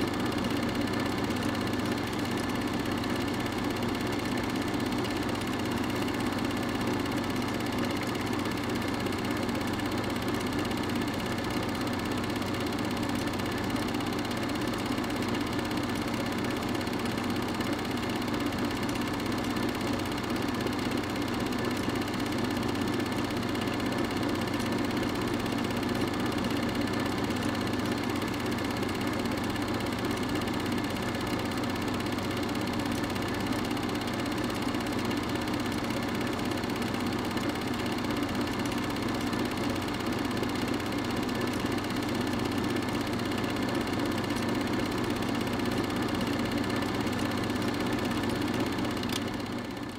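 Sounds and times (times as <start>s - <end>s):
film projector running: 0.0s - 49.9s.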